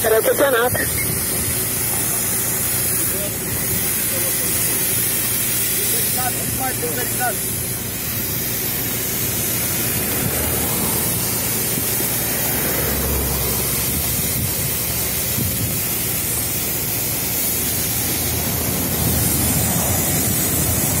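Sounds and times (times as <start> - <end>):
fire hose spraying water: 0.0 - 21.0.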